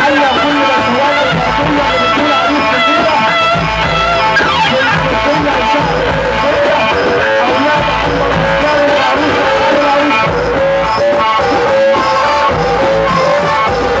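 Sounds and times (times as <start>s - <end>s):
melody of bending notes: 0.0s - 14.0s
steady bass line: 0.0s - 14.0s.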